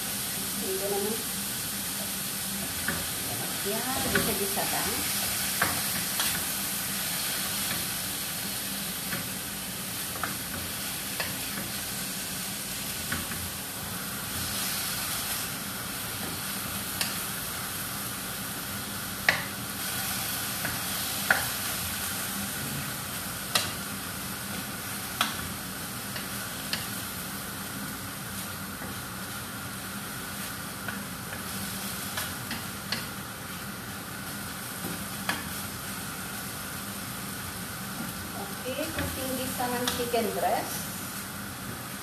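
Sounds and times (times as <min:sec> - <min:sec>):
chicken sizzling in frying pan: 0:00.0 - 0:42.0.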